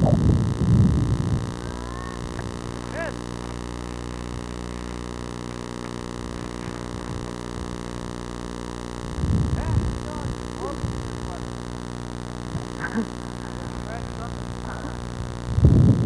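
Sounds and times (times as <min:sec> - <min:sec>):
low rumble on microphone: 0:00.0 - 0:05.3, 0:05.9 - 0:16.0
steady electrical hum: 0:00.0 - 0:16.0.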